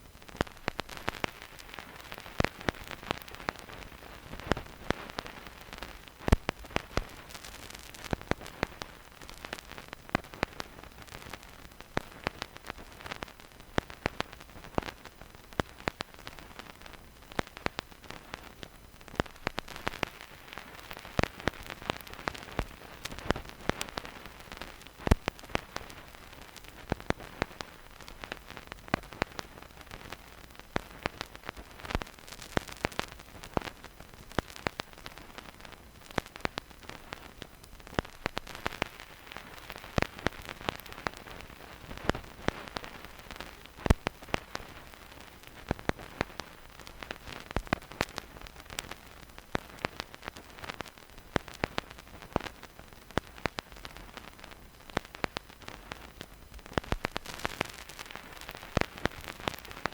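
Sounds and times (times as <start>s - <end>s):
vinyl record crackle and hiss: 0.0s - 59.9s.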